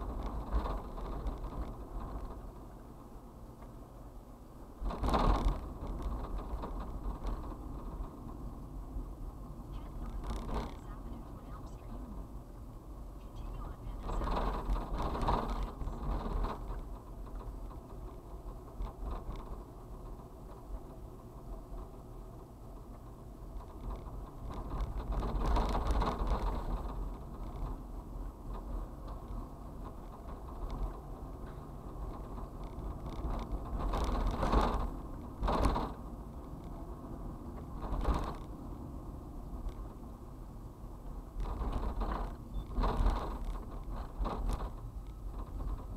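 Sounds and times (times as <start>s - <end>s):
cab creaks and rattles: 0.0s - 45.9s
road and engine noise: 0.0s - 45.9s.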